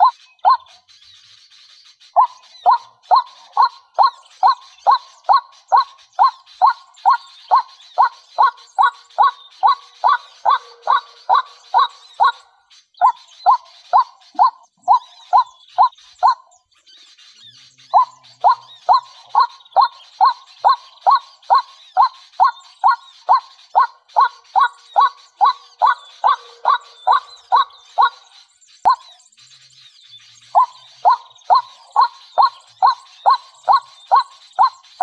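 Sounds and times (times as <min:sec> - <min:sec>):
bird calling loudly: 0:00.0 - 0:35.0
birds chirping faintly: 0:00.0 - 0:35.0.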